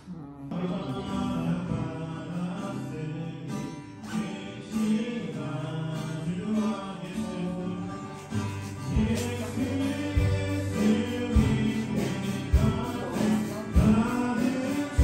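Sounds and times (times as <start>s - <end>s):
acoustic guitar: 0.0s - 15.0s
voices singing together: 0.5s - 15.0s.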